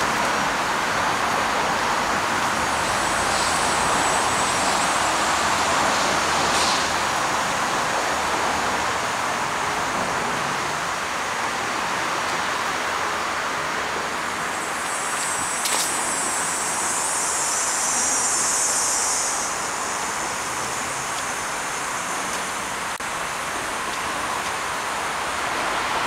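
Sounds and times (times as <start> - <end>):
city traffic rushing: 0.0 - 26.0
high hiss: 0.0 - 26.0.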